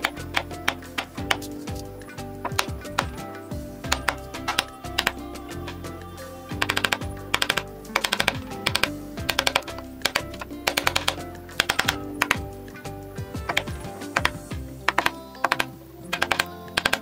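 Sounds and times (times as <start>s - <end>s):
rapid clicking: 0.0s - 5.9s, 6.5s - 12.5s, 13.4s - 17.0s
background music with steady beat: 0.0s - 17.0s.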